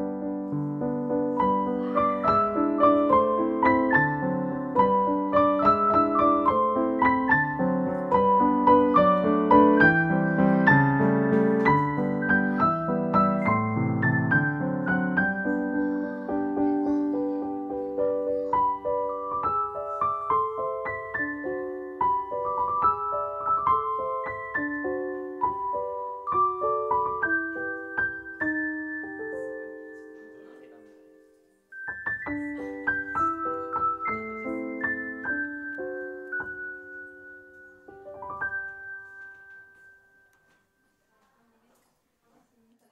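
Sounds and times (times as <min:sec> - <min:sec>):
gentle piano music: 0:00.0 - 0:41.2.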